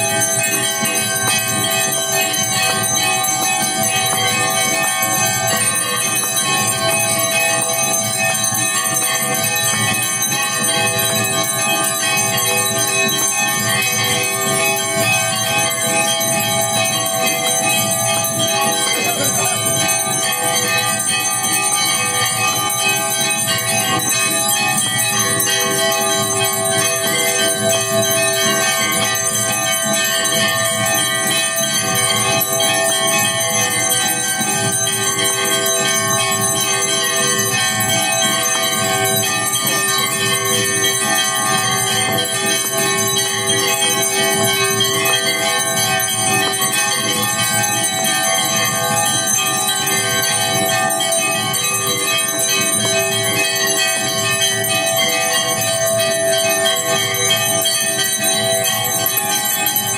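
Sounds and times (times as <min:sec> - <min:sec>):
temple bells clanging: 0:00.0 - 0:59.9.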